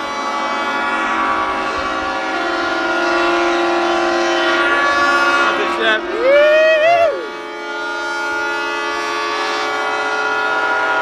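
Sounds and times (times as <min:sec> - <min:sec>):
deep ship horn: 0:00.0 - 0:11.0
ship horns blasting: 0:00.0 - 0:11.0.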